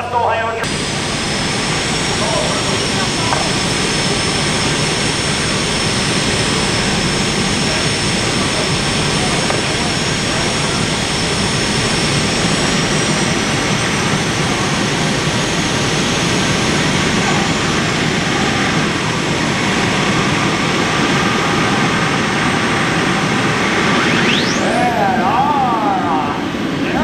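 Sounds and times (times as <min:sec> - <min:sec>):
high turbine whine: 0:00.0 - 0:27.0
turbine engines roaring: 0:00.0 - 0:27.0.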